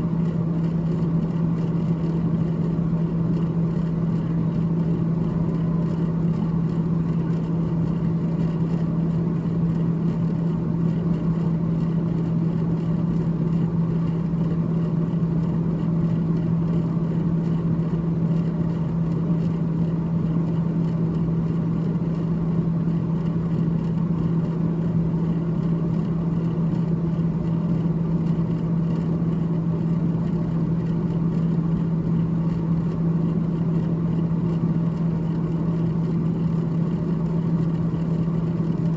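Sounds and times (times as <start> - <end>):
freezer fan running: 0.0 - 38.9.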